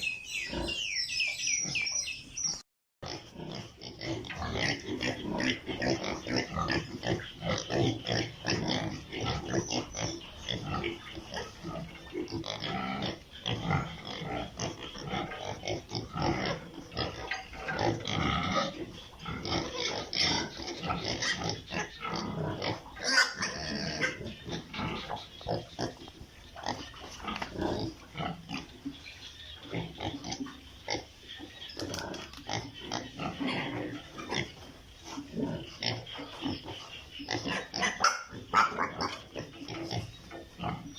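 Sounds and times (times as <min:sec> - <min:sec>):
piglets grunting and squealing: 0:00.0 - 0:00.9, 0:01.5 - 0:40.9.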